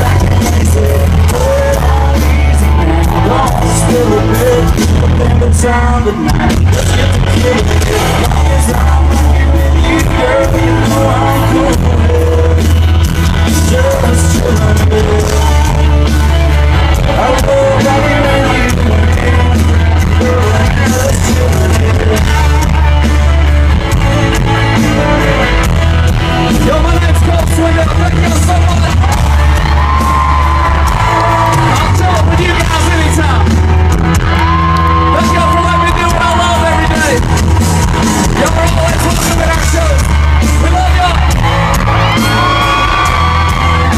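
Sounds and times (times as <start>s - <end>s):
crowd: 0.0s - 43.9s
live country rock band: 0.0s - 43.9s.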